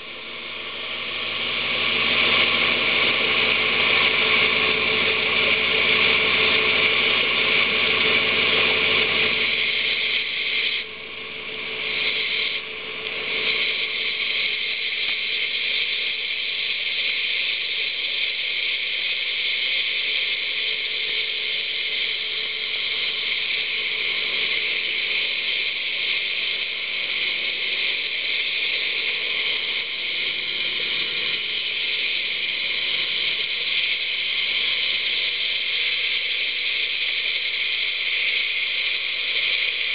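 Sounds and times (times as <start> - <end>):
underwater cleaning brush hissing: 0.0 - 39.9.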